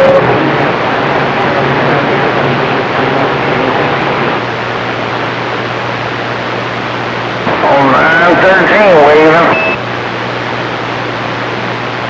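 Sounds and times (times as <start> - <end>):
radio static hiss: 0.0 - 12.0
weak unreadable radio signals: 0.0 - 12.0.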